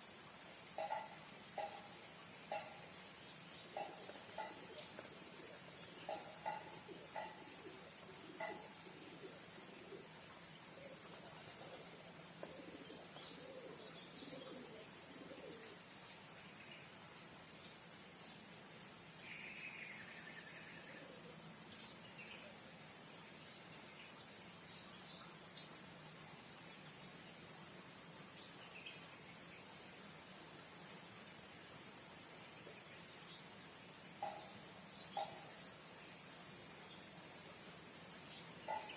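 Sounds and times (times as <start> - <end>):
insects trilling: 0.0 - 38.9
pulsing insect chirp: 0.0 - 38.9.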